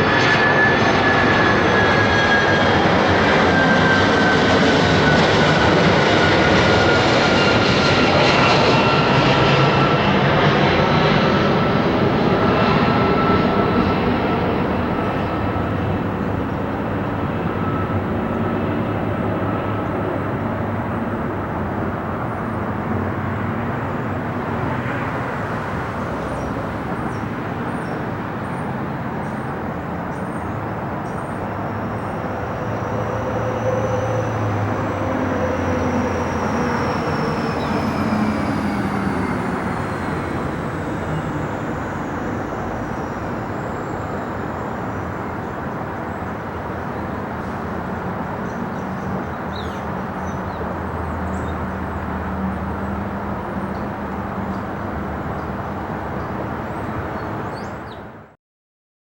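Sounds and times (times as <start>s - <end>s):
jet engine whine: 0.0s - 58.4s
jet engines rumbling overhead: 0.0s - 58.4s.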